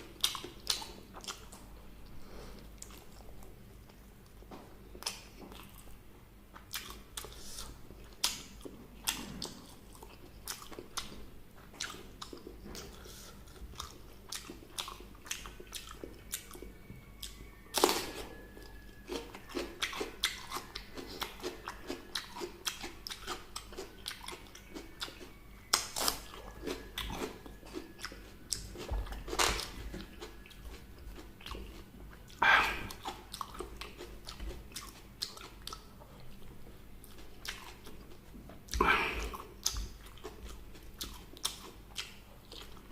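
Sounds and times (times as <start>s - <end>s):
chewing crispy food: 0.0s - 42.9s.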